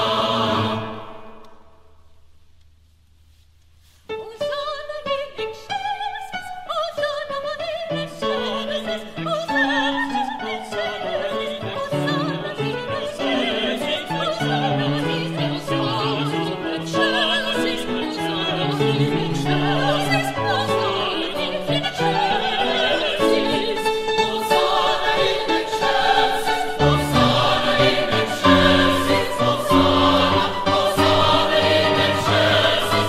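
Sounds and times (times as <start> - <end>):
choir singing: 0.0 - 1.7, 8.0 - 33.0.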